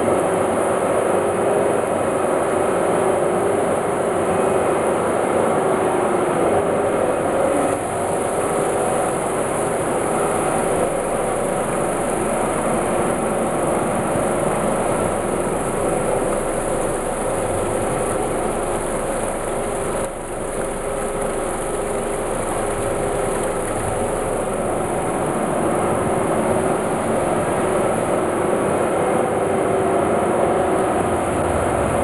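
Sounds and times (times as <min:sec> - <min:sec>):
washing machine running: 0:00.0 - 0:32.0.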